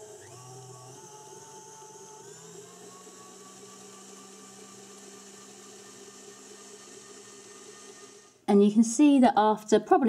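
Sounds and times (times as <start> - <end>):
electric stand mixer whisking: 0.0 - 8.4.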